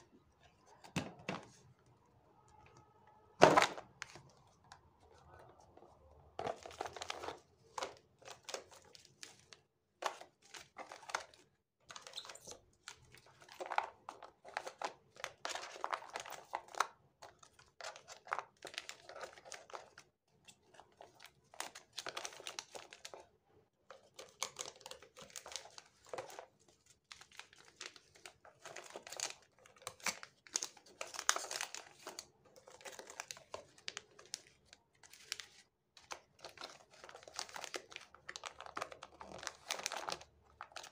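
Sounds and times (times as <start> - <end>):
packaging crinkling and rustling: 6.4 - 23.2, 23.9 - 40.9.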